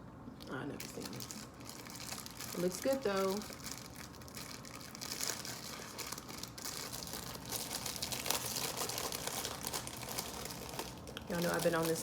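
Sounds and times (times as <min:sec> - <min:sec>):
plastic wrapper crinkling: 0:00.4 - 0:12.0.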